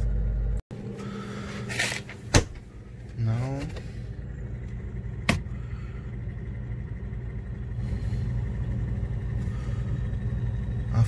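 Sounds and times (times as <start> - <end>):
refrigerator compressor humming: 0.0 - 11.0.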